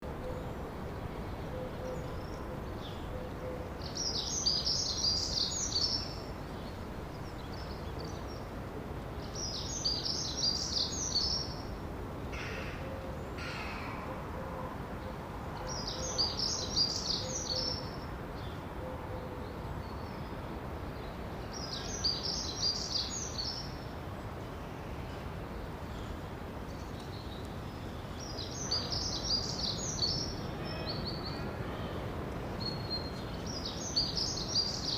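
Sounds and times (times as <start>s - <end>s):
steady background noise: 0.0s - 34.9s.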